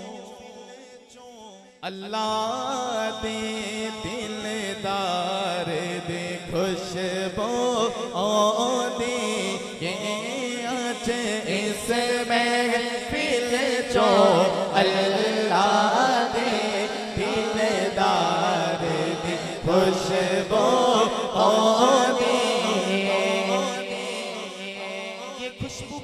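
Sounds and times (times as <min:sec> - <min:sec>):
man singing into microphone: 0:00.0 - 0:26.0.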